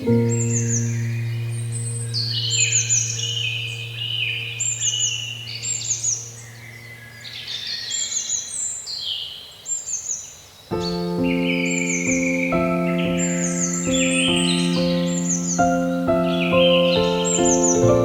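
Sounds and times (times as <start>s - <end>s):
low held musical chord: 0.0s - 7.6s, 10.8s - 18.0s
birds chirping and calling: 0.0s - 18.0s.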